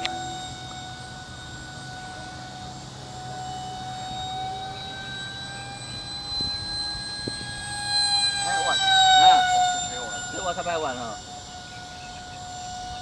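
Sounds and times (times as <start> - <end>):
model aircraft motor whining: 0.0 - 13.0.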